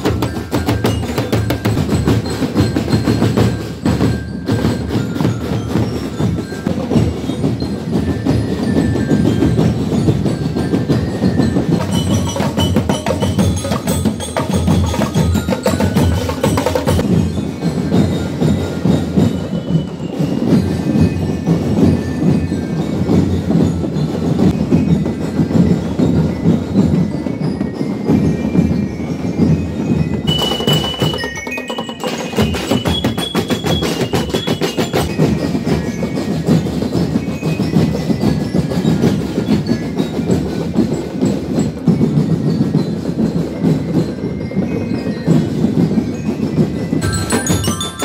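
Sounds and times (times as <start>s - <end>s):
massed drums beating: 0.0s - 44.1s, 45.3s - 48.0s
bell lyres ringing high notes: 0.0s - 48.0s.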